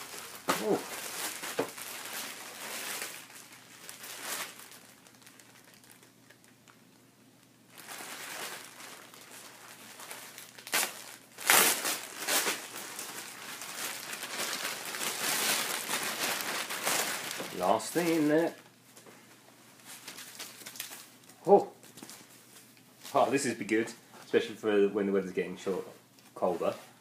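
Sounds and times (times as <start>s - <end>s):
plastic bag crinkling: 0.0s - 18.7s, 19.8s - 23.6s.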